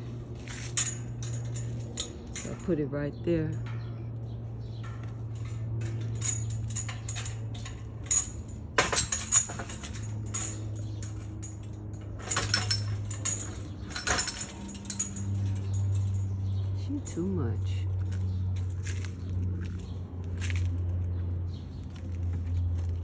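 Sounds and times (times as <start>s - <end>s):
metallic clinks and rattles: 0.0s - 23.0s
steady low hum: 0.0s - 23.0s.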